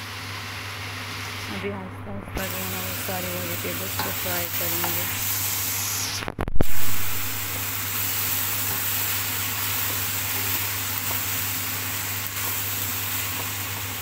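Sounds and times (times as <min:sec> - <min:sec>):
vegetables sizzling in a pan: 0:00.0 - 0:01.7, 0:02.4 - 0:14.0.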